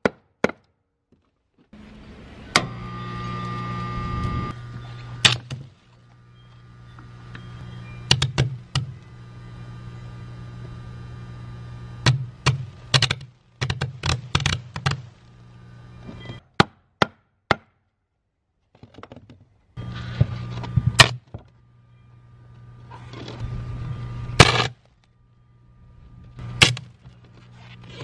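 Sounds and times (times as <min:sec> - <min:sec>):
arc welder humming: 0:01.8 - 0:16.4, 0:19.8 - 0:28.0.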